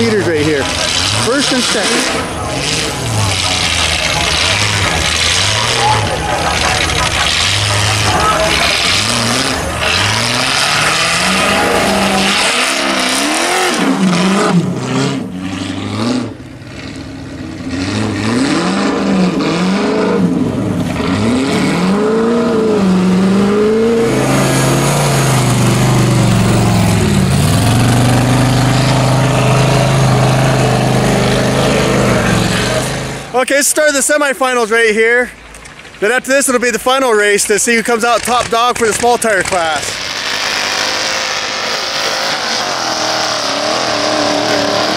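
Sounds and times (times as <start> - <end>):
buggy engines revving: 0.0 - 44.9.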